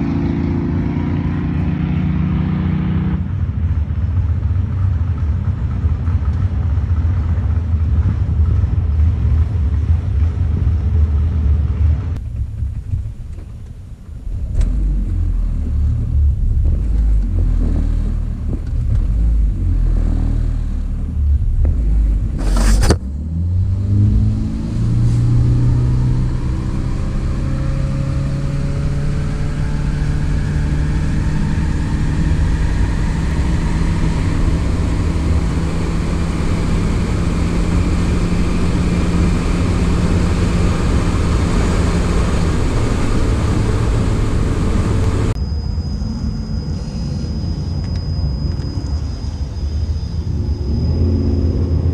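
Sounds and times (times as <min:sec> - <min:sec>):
car engine accelerating: 0:00.0 - 0:51.9
rising engine whine: 0:00.0 - 0:51.9.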